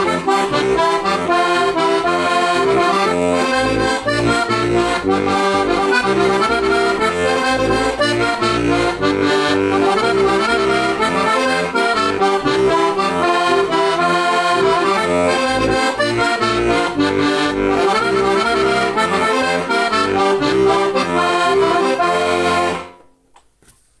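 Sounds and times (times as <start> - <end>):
button accordion folk tune: 0.0 - 23.1.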